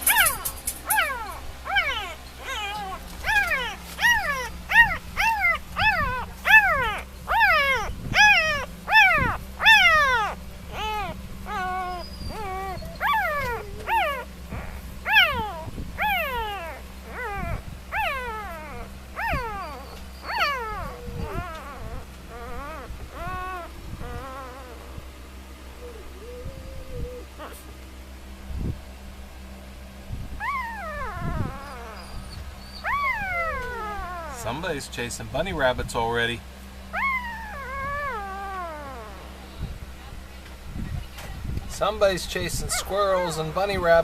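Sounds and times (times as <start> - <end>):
puppies crying: 0.0 - 28.0, 30.3 - 40.3, 41.7 - 44.0.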